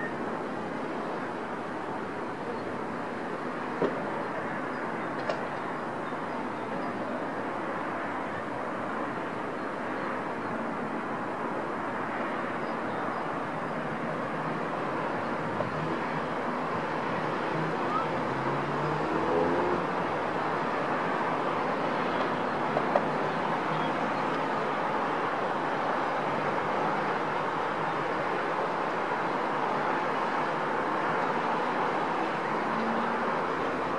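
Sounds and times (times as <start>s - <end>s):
city traffic noise: 0.0s - 33.9s.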